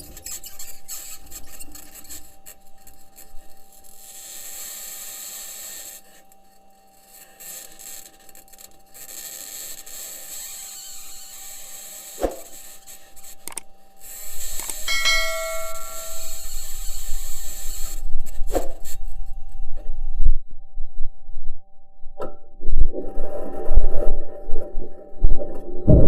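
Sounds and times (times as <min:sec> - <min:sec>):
thin steady whine: 0:00.0 - 0:23.0.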